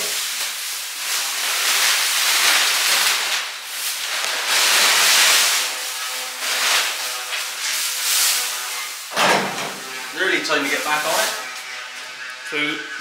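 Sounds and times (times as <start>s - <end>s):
plastic sheet rustling and crackling: 0.0s - 11.6s.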